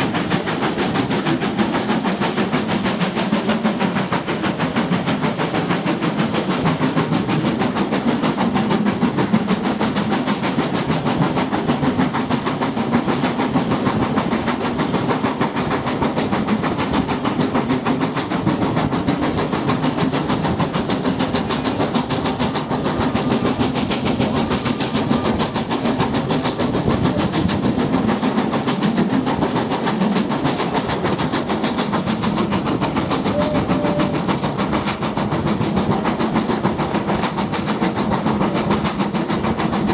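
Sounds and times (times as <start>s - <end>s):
train wheels rattling on rails: 0.0s - 39.9s.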